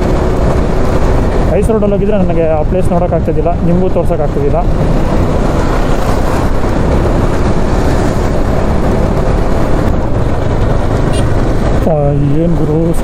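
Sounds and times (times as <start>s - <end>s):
motorcycle road noise: 0.0s - 13.0s
wind rush: 0.0s - 13.0s.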